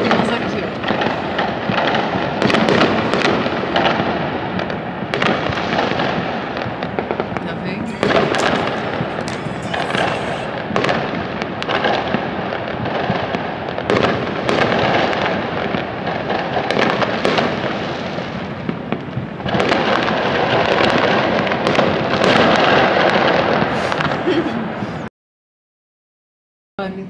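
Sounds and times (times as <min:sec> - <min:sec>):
fireworks banging and crackling: 0:00.0 - 0:25.1.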